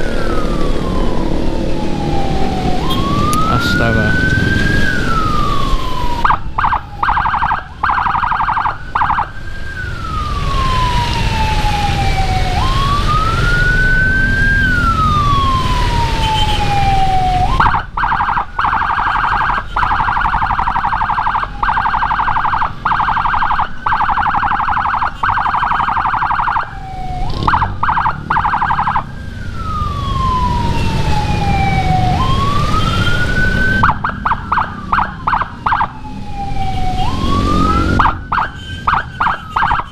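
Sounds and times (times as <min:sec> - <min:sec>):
electronic siren wail and yelp: 0:00.0 - 0:39.9
engine and road rumble: 0:00.0 - 0:39.9.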